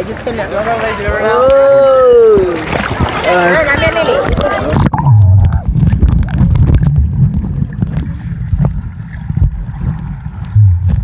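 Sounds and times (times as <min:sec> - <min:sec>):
underwater rumble and sloshing: 0:00.0 - 0:11.0.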